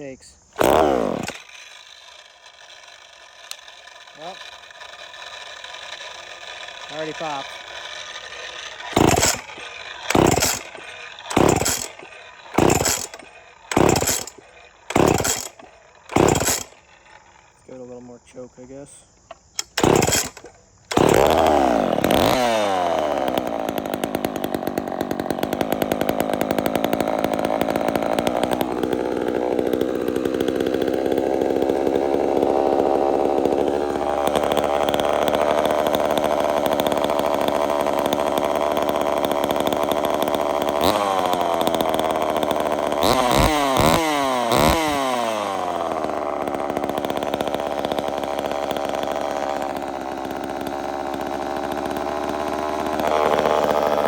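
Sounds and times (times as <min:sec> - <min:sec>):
chainsaw starting and revving: 0:00.0 - 0:18.1, 0:19.3 - 0:54.0.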